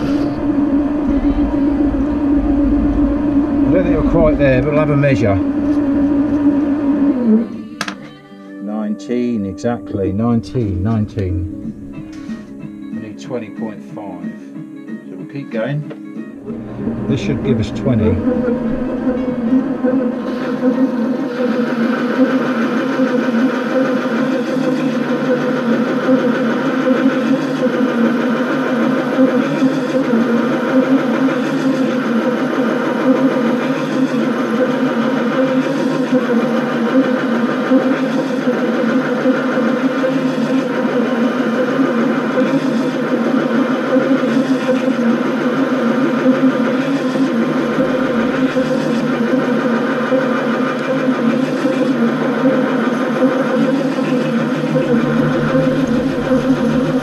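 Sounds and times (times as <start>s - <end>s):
lathe motor and gear hum: 0.0s - 8.0s, 15.3s - 57.0s.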